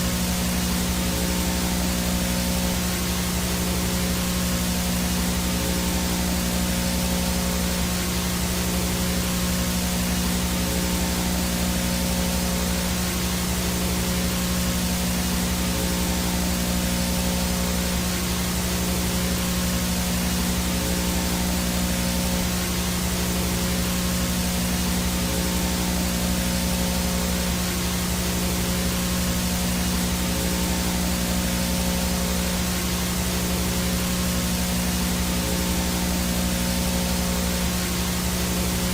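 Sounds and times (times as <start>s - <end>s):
low electrical hum: 0.0s - 38.9s
static hiss: 0.0s - 38.9s.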